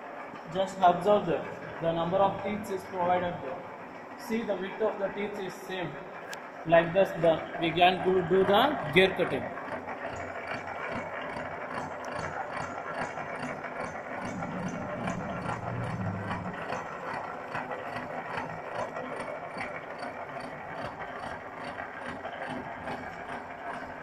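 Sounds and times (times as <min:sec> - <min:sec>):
milling machine rhythmic clatter: 0:00.0 - 0:24.0.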